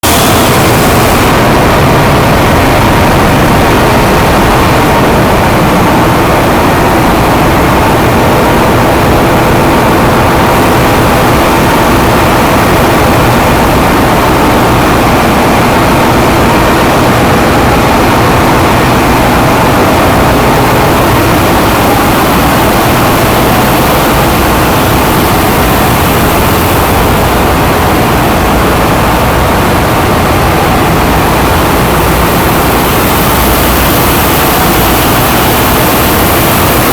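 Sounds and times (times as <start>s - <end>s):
engine room machinery din: 0.0s - 36.9s.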